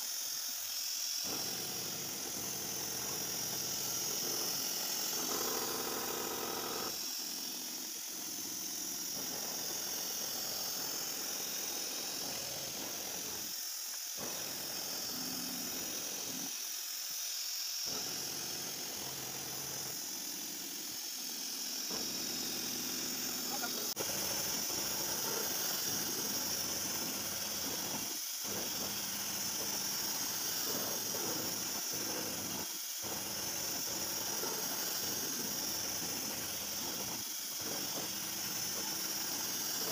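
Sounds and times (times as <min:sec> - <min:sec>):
machine hiss: 0:00.0 - 0:39.9.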